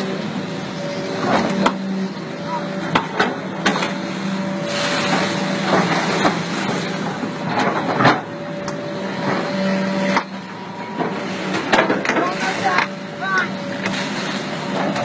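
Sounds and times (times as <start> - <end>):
excavator engine humming: 0.0 - 15.0
stream water rushing and churning: 0.0 - 15.0.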